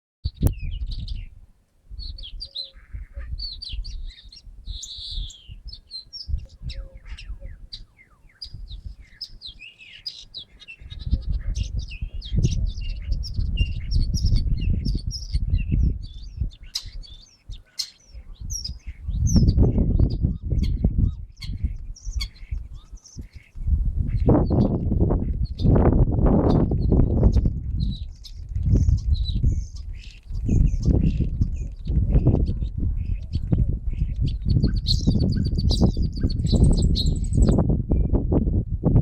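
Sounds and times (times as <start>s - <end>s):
birds singing and chirping: 0.3s - 1.4s, 2.0s - 38.2s.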